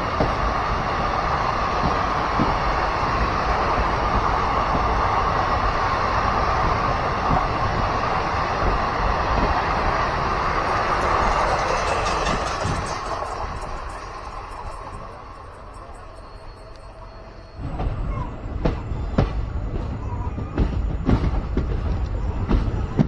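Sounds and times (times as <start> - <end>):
rushing air: 0.0 - 20.6
train wheels rumbling on rails: 0.0 - 23.0.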